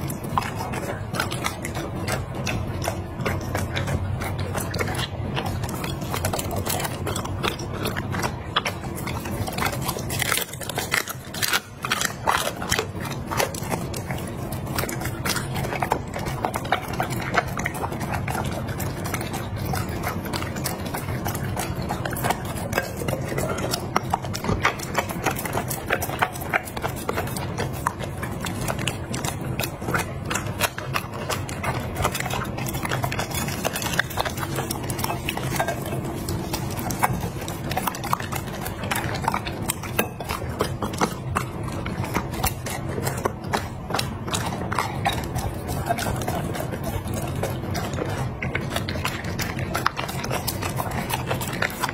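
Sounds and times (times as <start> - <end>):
dog chewing and crunching: 0.0 - 51.9
steady low hum: 0.0 - 51.9
teeth clicking on glass plate: 0.0 - 51.9.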